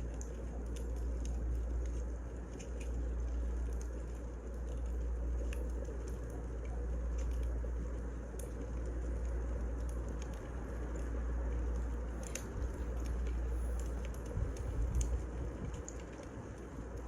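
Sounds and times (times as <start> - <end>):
fire rumbling: 0.0 - 17.0
firewood crackling and popping: 0.0 - 17.0.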